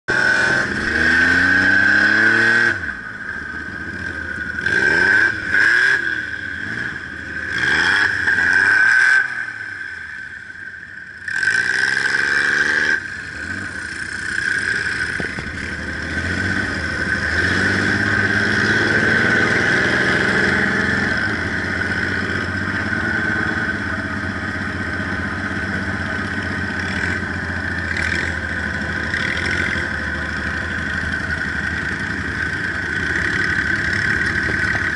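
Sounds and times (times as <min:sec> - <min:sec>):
dune buggy engine revving: 0:00.1 - 0:10.3, 0:11.2 - 0:34.9.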